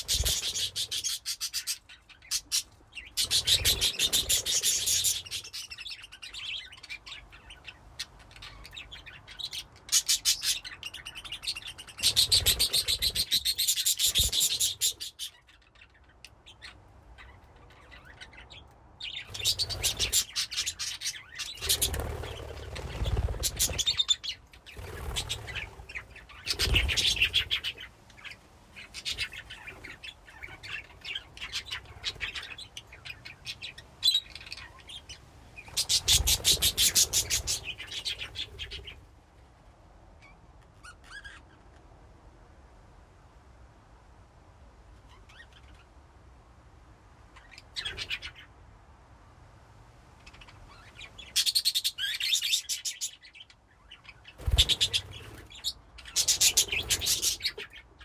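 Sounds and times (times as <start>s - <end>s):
budgerigars chirping: 0.0s - 39.0s, 50.3s - 58.0s.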